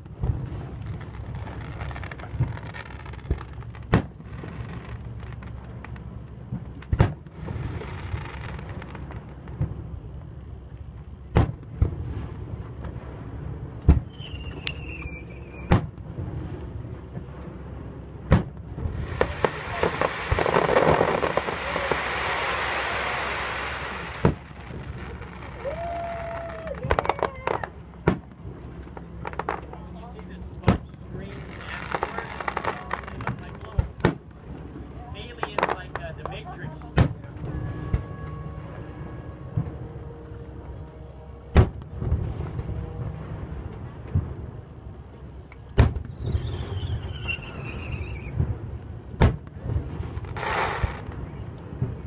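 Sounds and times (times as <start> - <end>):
fireworks booming: 0.0 - 52.0.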